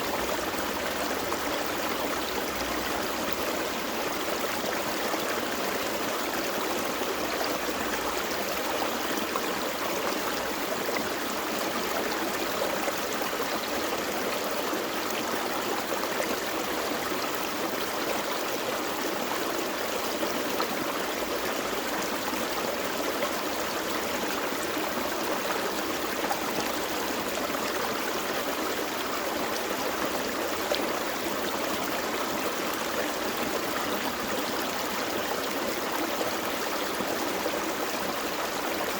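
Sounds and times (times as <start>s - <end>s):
creek flowing over rocks: 0.0s - 38.9s.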